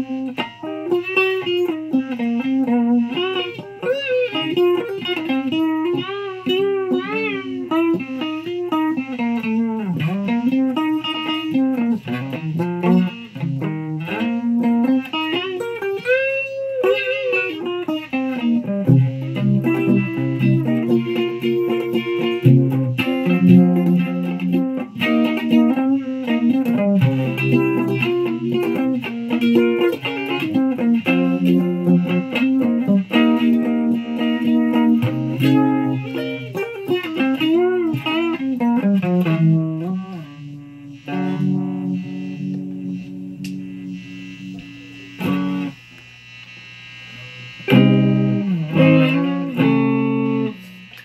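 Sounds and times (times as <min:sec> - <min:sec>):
electric guitar: 0:00.0 - 0:51.0.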